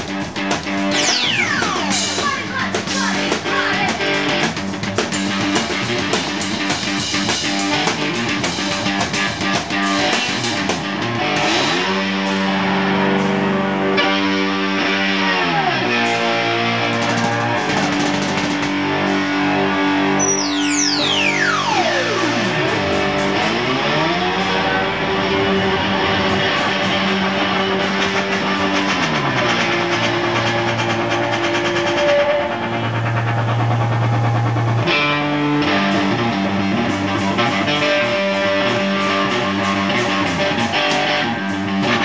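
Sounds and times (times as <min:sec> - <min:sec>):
distorted electric guitar: 0:00.0 - 0:42.0
rock drums: 0:00.0 - 0:42.0.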